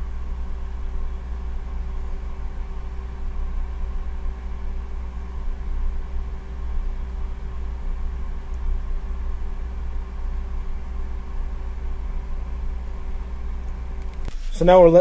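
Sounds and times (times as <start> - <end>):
faint steady tones: 0.0 - 15.0
motor humming and rumbling: 0.0 - 15.0.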